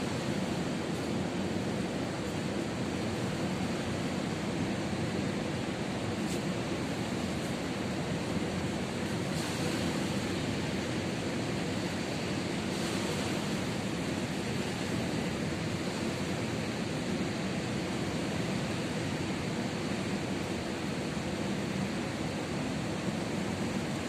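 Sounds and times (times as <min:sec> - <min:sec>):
ocean waves: 0:00.0 - 0:24.0.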